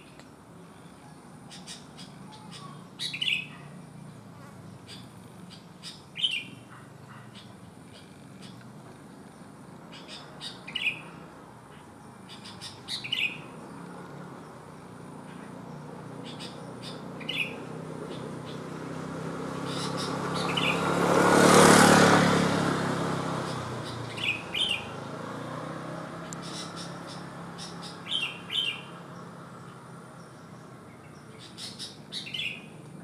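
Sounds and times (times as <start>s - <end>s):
bird chirping calls: 0.0s - 21.1s, 23.3s - 32.9s
passing vehicle: 0.0s - 33.0s.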